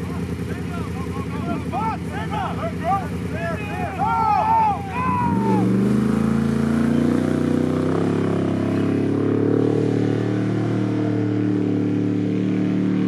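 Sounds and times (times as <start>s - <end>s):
engine running loudly: 0.0s - 13.0s.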